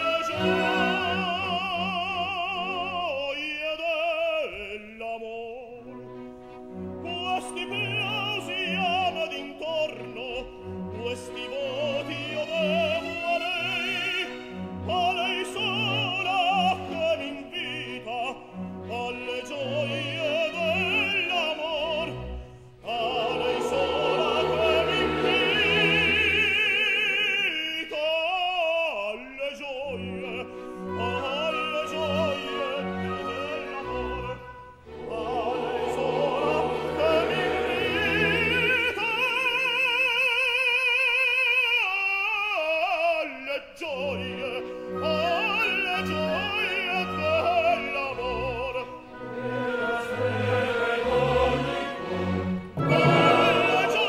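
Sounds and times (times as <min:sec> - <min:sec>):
orchestral accompaniment: 0:00.0 - 0:54.0
tenor singing with vibrato: 0:07.0 - 0:54.0.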